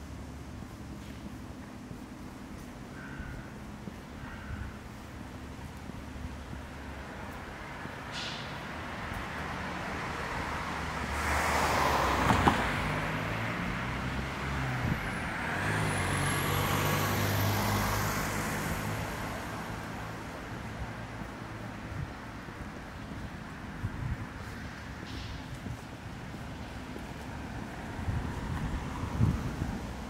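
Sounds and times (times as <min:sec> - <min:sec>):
cars passing on street: 0:00.0 - 0:30.0.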